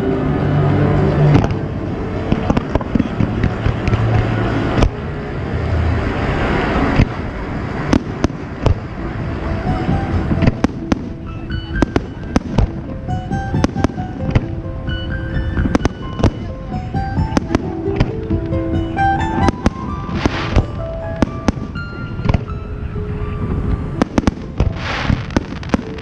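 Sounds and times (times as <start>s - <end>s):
music playing: 0.0s - 26.0s
fireworks bangs: 1.0s - 1.6s, 2.2s - 5.1s, 6.0s - 14.6s, 15.5s - 22.6s, 23.5s - 26.0s.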